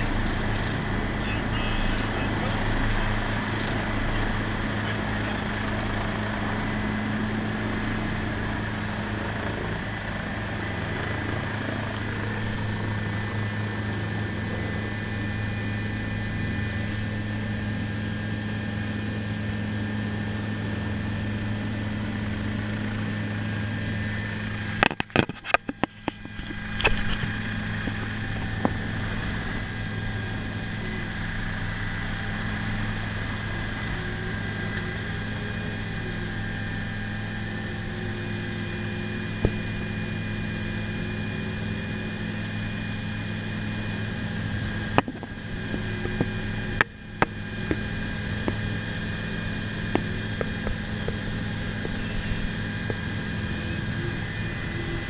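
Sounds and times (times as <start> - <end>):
helicopter engine and rotor hum: 0.0 - 55.0.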